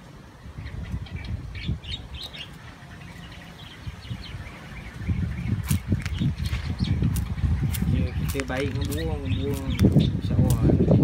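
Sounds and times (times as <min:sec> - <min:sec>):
high bird chirps: 0:00.5 - 0:10.4.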